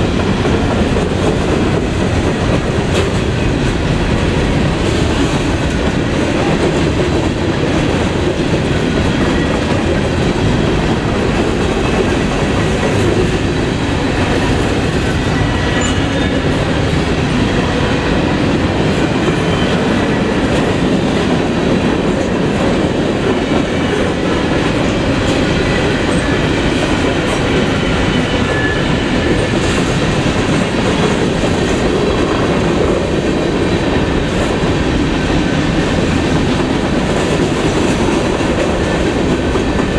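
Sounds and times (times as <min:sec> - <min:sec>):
freight train rumble: 0:00.0 - 0:39.9
train wheels clacking on rails: 0:00.0 - 0:39.9.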